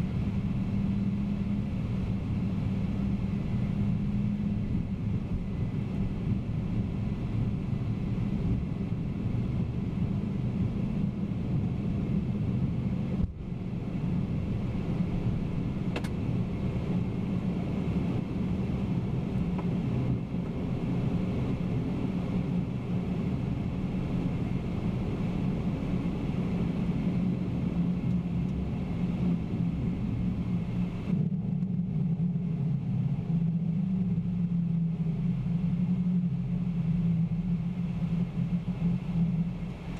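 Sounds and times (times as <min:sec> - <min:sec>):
aircraft air and engine rumble: 0:00.0 - 0:39.9.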